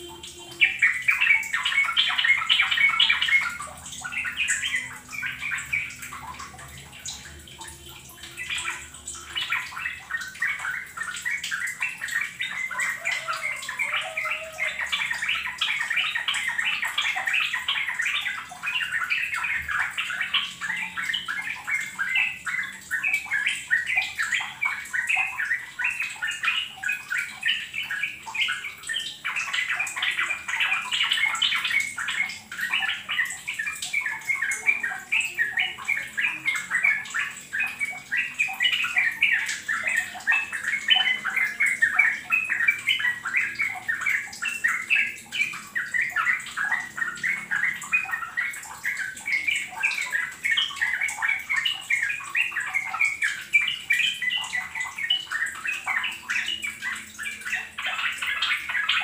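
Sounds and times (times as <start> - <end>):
bulbuls singing bubbly chatter: 0.0 - 59.0.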